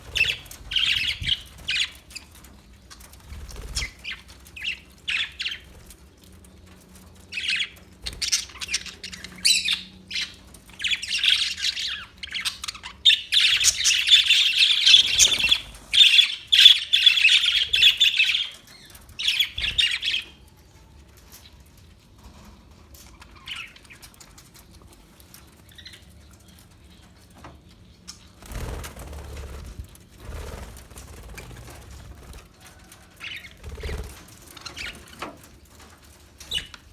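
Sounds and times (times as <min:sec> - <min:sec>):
parakeets chirping and chattering: 0:00.0 - 0:20.5, 0:23.0 - 0:32.4, 0:33.0 - 0:36.9.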